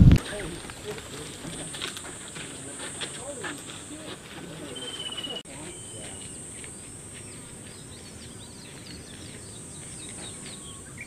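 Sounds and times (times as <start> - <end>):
small birds chirping: 0.3 - 11.0
high insect drone: 0.4 - 11.0.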